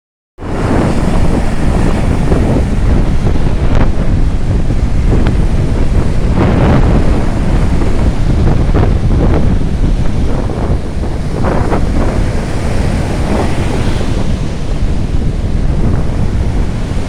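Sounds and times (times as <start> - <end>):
sea waves washing: 0.4 - 17.0
wind buffeting microphone: 0.4 - 17.0.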